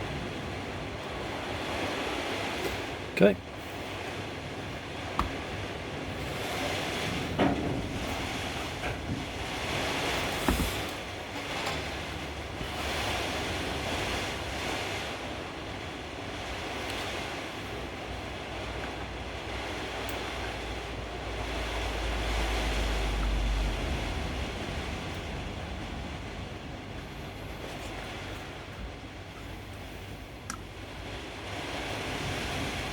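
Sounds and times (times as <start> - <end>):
rain hissing: 0.0 - 32.9.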